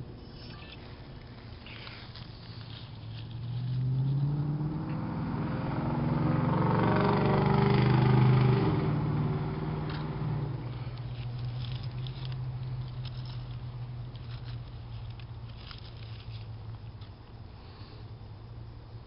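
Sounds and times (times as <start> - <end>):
vehicle engine hum passing: 0.0 - 19.0.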